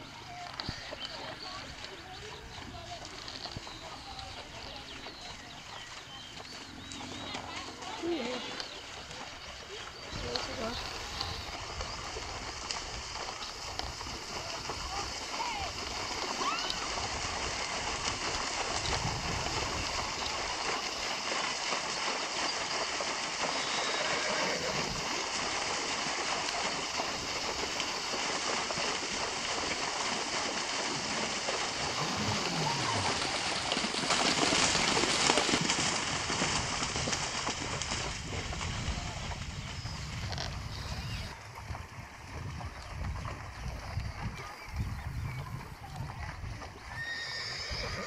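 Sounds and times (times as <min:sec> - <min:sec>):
horse hooves splashing in water: 0:00.0 - 0:48.0.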